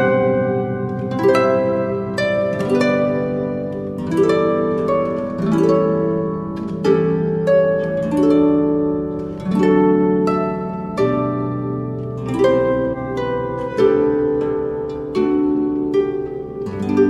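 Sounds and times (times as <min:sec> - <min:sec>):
plucked harp-like string music: 0:00.0 - 0:17.0.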